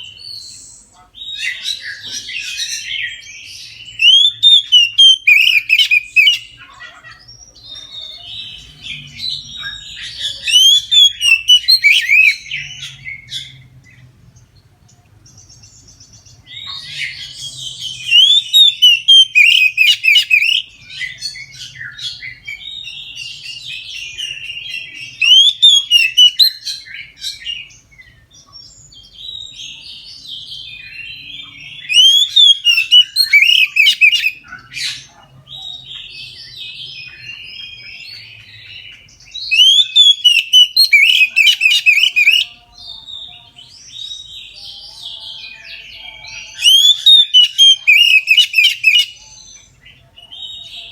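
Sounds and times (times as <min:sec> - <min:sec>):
magpie-robin singing: 0:00.0 - 0:50.9.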